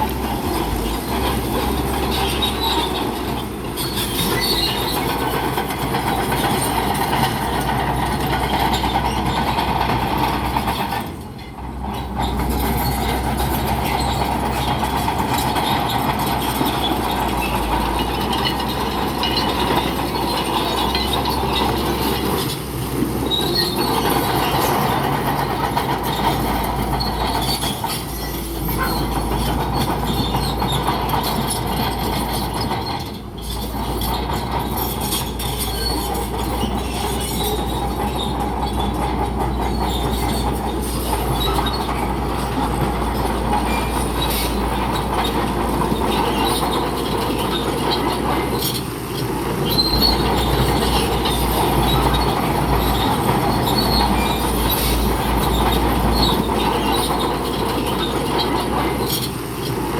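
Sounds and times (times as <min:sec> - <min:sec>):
bulldozer diesel engine running: 0:00.0 - 0:59.9
crawler tracks squealing and clanking: 0:00.0 - 0:59.9.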